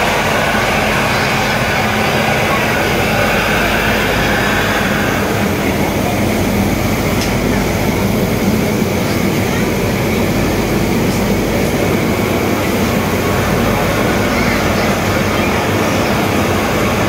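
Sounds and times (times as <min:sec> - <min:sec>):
steam locomotive hissing and rumbling: 0:00.0 - 0:17.0.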